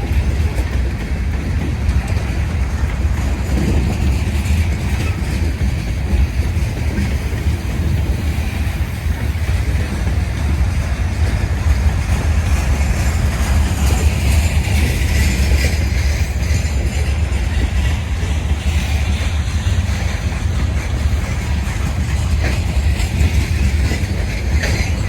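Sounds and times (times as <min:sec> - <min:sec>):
freight train rumbling past: 0:00.0 - 0:25.0
train cars rattling: 0:00.0 - 0:25.0.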